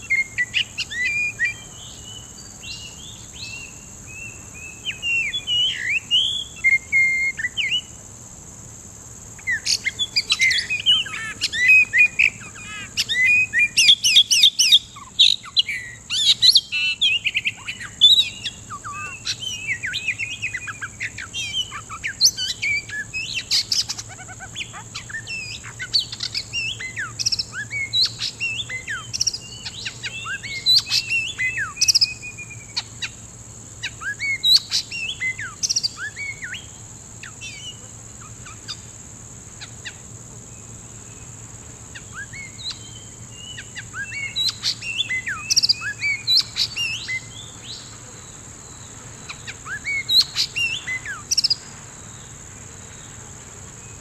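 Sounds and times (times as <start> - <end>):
bird singing whistled notes: 0.0 - 8.0, 9.4 - 33.2, 33.8 - 37.8, 42.0 - 47.9, 48.7 - 51.7
steady high-pitched hiss: 0.0 - 54.0.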